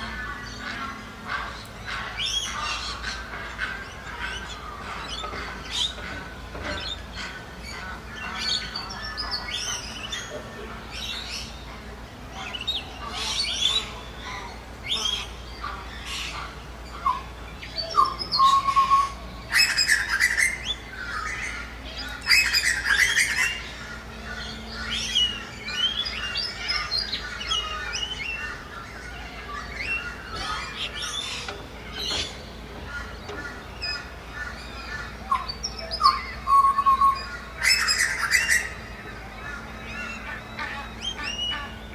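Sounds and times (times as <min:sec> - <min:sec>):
ducks and birds calling: 0:00.0 - 0:41.9.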